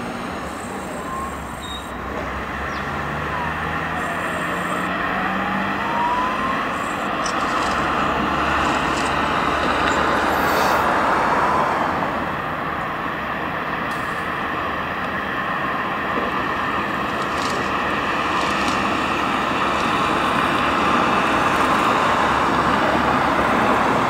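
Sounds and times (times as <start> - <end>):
distant jet roar: 0.0 - 24.0.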